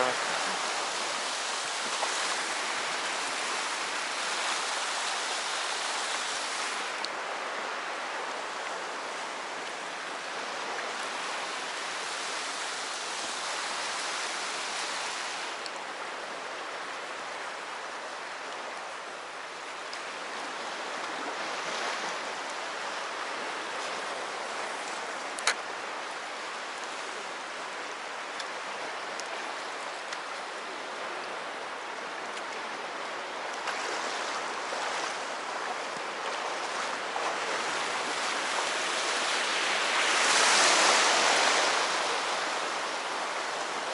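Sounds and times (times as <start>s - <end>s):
sea waves washing onto shore: 0.0s - 43.9s.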